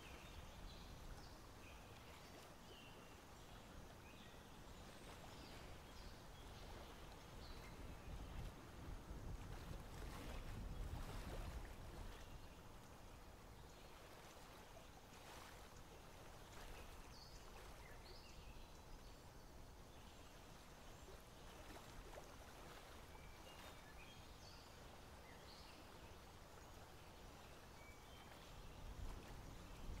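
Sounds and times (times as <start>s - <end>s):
faint outdoor hiss and rumble: 0.0s - 30.0s.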